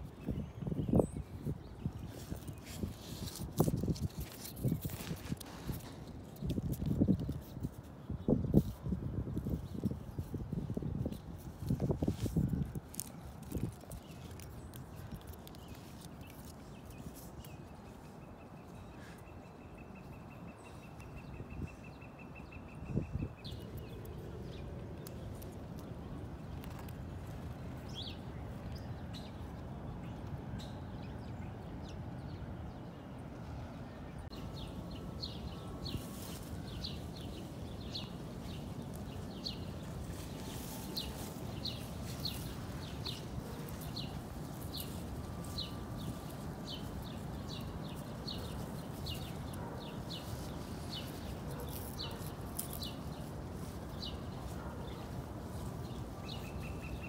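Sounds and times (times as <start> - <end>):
small birds chirping: 0.0 - 33.1, 34.1 - 57.0
low background noise: 0.0 - 57.0.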